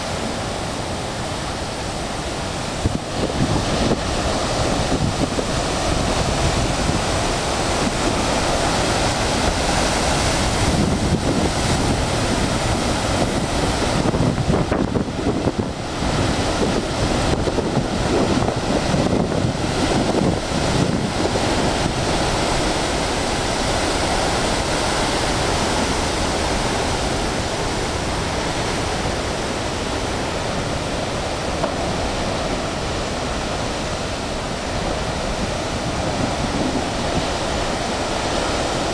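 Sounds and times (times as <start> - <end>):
ocean surf breaking on rocks: 0.0 - 38.9
wind buffeting microphone: 0.0 - 38.9.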